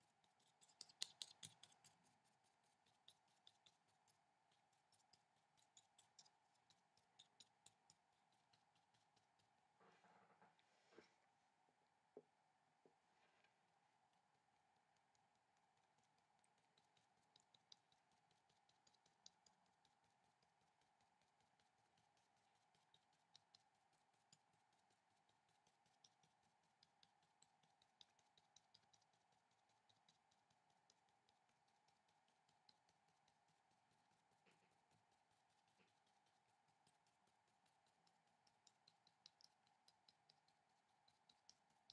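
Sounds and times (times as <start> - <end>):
paintbrush ticking on paper: 0.0 - 9.8, 13.5 - 41.9
faint steady hum: 0.0 - 41.9.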